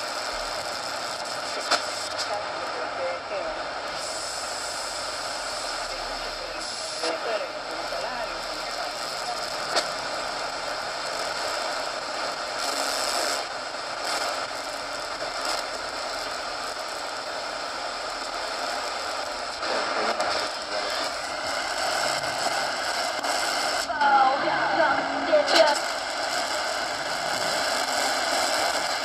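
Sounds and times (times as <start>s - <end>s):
shortwave radio static hissing: 0.0s - 29.0s.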